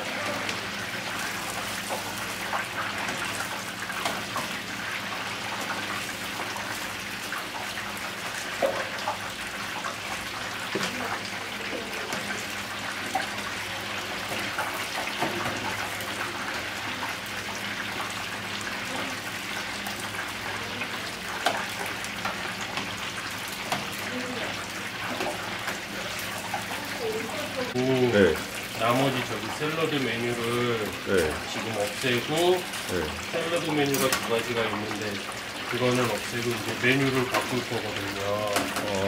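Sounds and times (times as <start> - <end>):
deep-frying crackling sizzle: 0.0 - 39.0.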